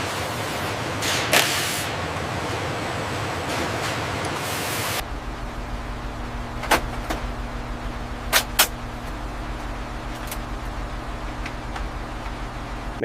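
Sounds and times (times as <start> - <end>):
workshop machine hum: 0.0 - 13.0.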